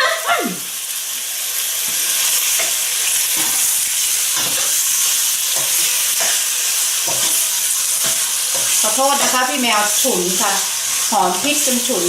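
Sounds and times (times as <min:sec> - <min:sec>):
chicken sizzling in oil: 0:00.0 - 0:12.0
spatula scraping pan: 0:01.9 - 0:12.0.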